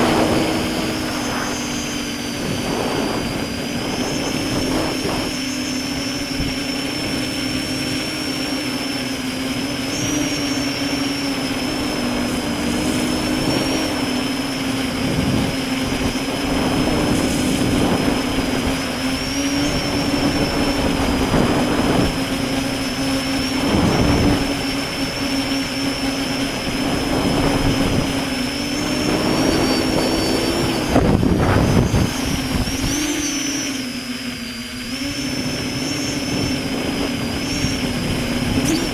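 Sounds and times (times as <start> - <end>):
drone motors whining: 0.0 - 38.9
rushing noise: 0.0 - 38.9.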